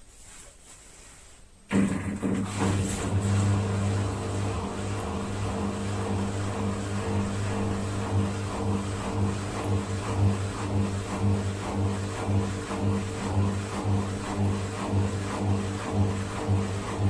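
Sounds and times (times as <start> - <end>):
washing machine electric hum: 1.7 - 17.0.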